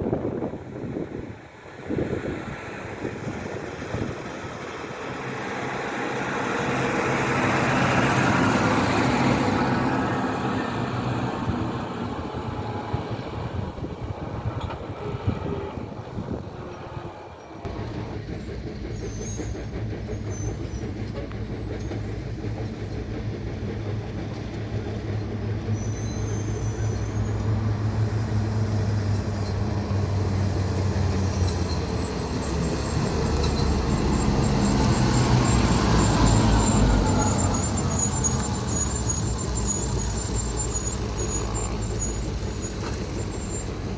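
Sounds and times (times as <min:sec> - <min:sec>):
vehicle engine and tyre noise: 0:00.0 - 0:18.8, 0:20.0 - 0:43.9.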